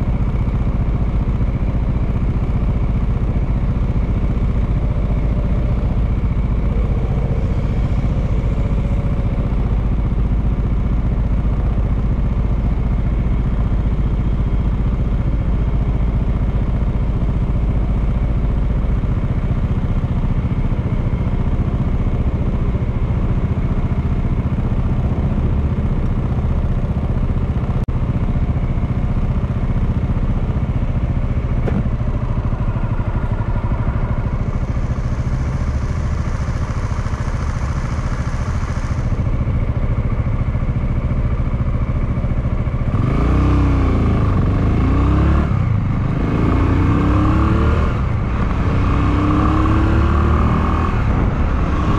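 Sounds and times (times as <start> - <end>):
motorcycle engine running: 0.0 - 51.9
road and wind noise: 0.0 - 51.9.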